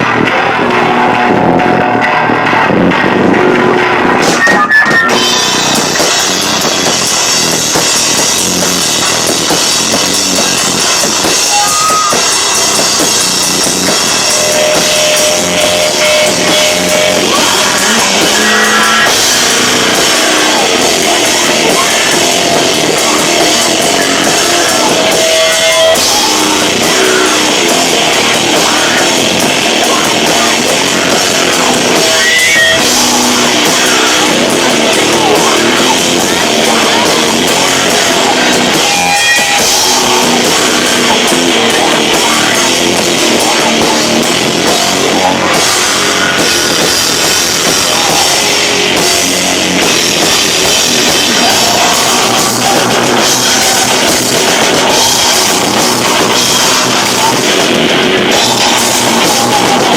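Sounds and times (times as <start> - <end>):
distorted live rock band: 0.0 - 59.9.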